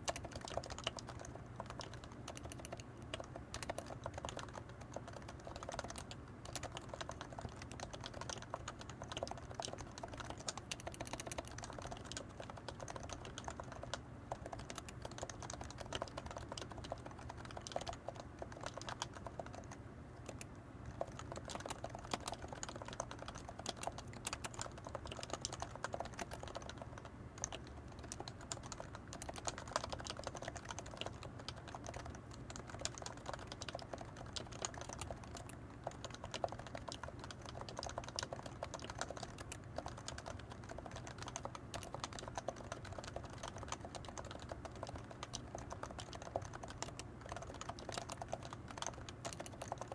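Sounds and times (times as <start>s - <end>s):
keyboard keystroke clicks: 0.0s - 49.9s.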